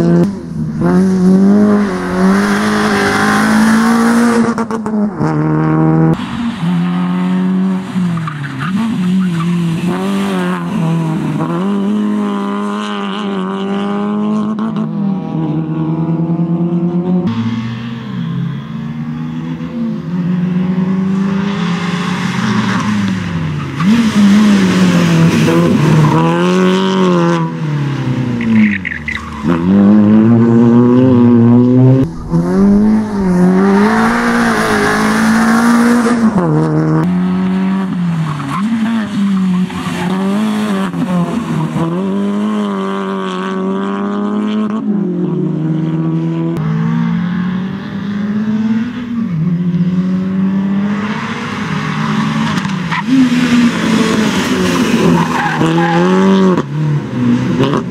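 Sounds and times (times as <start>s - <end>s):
rally car engine revving: 0.0s - 57.9s.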